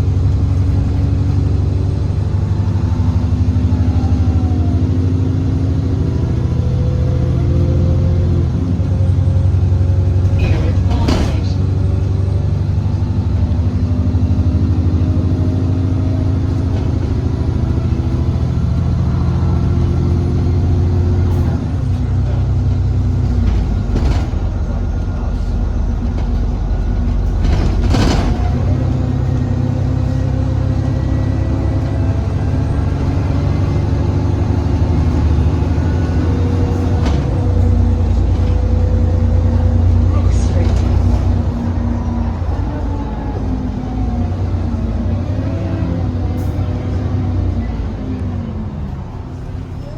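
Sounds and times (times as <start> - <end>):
bus engine whining: 0.0 - 49.9.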